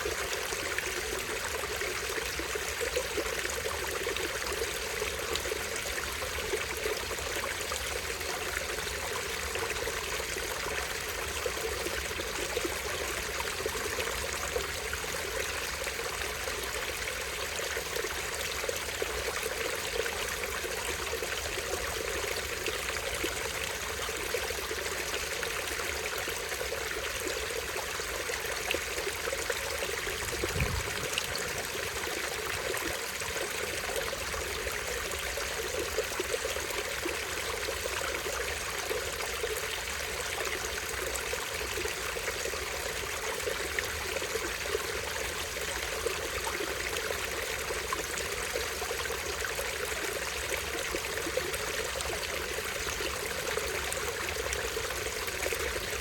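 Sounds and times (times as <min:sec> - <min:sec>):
stream trickling over waterfall: 0:00.0 - 0:56.0.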